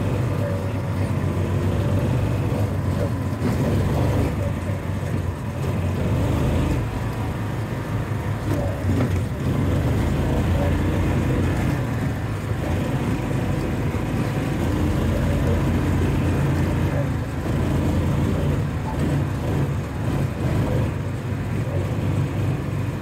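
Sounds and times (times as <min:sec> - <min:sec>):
utility vehicle engine running: 0:00.0 - 0:23.0.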